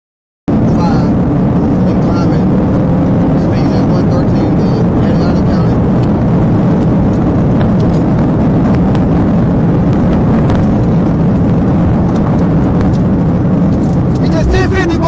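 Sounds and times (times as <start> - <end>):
vehicle rumbling: 0.5 - 15.0.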